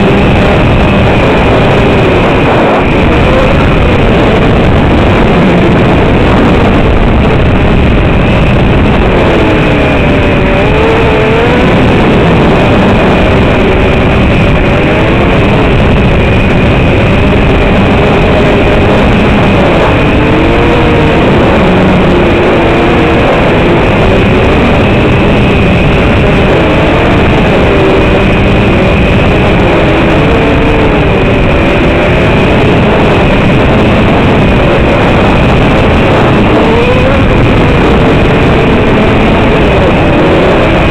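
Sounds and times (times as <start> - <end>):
drone motors whining: 0.0 - 40.9.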